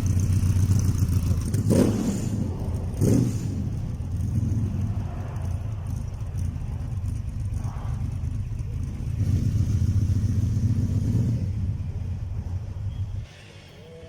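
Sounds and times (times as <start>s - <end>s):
car engine rumbling: 0.0s - 13.3s.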